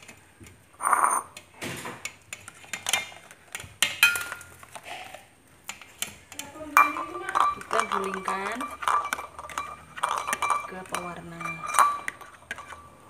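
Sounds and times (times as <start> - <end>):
eggs clinking against metal strainer: 0.8 - 13.0.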